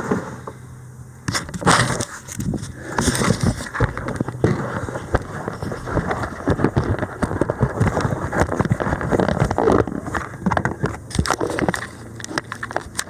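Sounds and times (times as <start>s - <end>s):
kayak hull knocks and scrapes: 1.3s - 13.0s.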